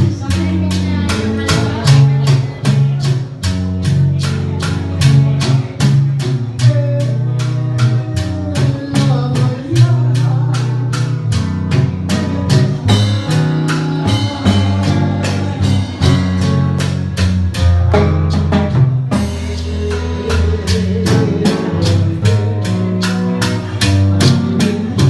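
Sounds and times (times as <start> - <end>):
person singing: 0.0 - 17.0, 19.2 - 25.0
band playing latin music: 0.0 - 25.0
percussion beat: 0.0 - 25.0.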